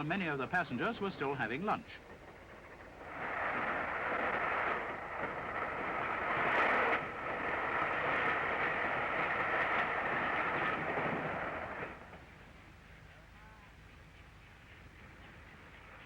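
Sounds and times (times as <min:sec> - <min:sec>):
steam train rushing past: 0:00.0 - 0:16.0.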